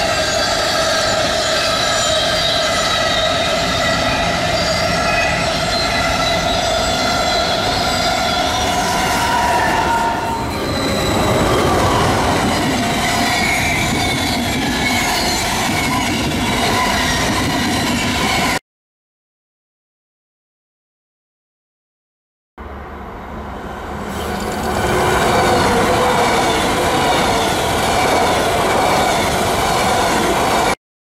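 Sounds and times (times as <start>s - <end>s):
train wheels rushing on rails: 0.0s - 18.6s, 22.6s - 30.8s.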